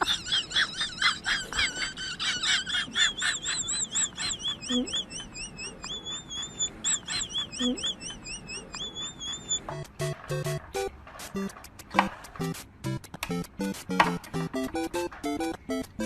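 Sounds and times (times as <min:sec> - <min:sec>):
young birds peeping: 0:00.0 - 0:16.0.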